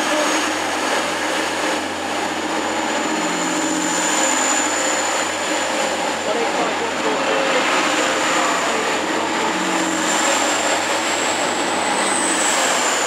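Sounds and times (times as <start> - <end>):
train engine whirring: 0.0 - 13.0.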